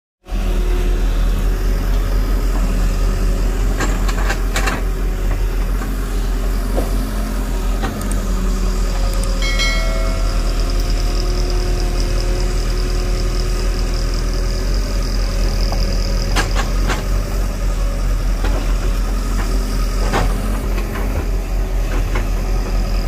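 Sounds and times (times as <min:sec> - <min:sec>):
excavator diesel engine running: 0:00.2 - 0:23.0.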